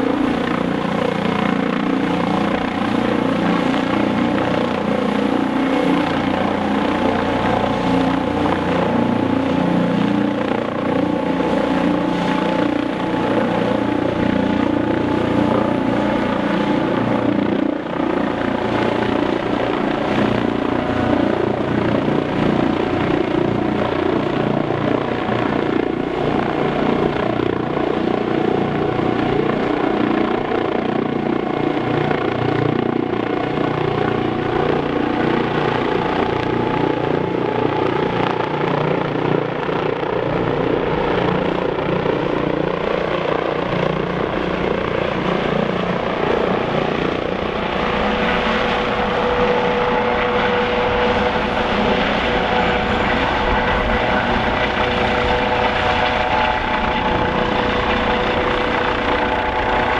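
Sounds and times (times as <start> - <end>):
helicopter rotor noise: 0.0 - 59.9
thin steady turbine whine: 0.0 - 59.9.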